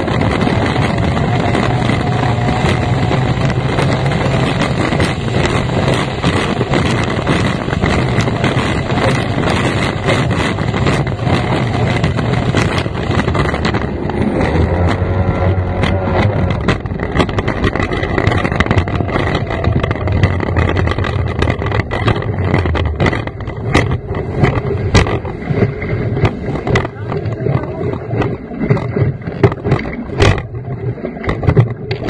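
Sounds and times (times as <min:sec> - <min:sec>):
outboard engine running hard: 0:00.0 - 0:32.0
wind buffeting microphone: 0:00.0 - 0:32.0.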